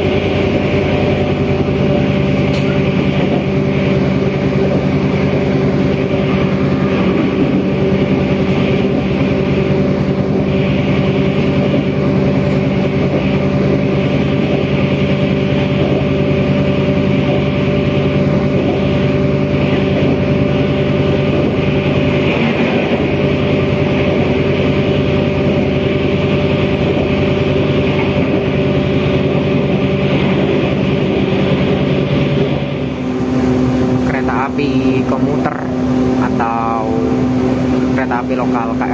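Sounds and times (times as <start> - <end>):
rushing hiss of moving train: 0.0 - 38.6
diesel engine drone: 0.0 - 38.9.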